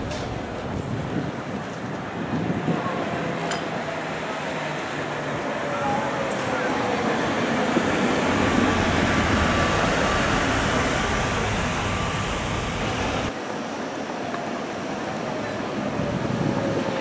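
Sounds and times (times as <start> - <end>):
street noise: 0.0 - 17.0
tram wheels rolling on rails: 0.0 - 17.0.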